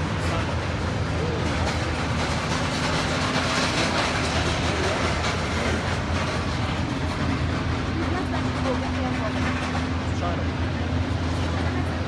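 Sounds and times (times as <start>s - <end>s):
airliner and ground equipment hum: 0.0s - 12.0s.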